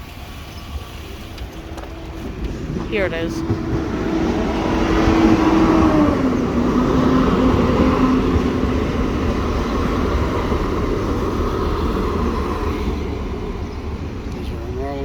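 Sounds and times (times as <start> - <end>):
diesel train passing: 0.0 - 15.0
train running rumble: 0.0 - 15.0.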